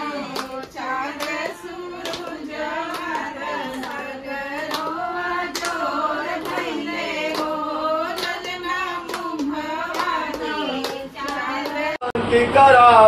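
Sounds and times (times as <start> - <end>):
hand claps: 0.0 - 11.9
women singing together: 0.0 - 12.1.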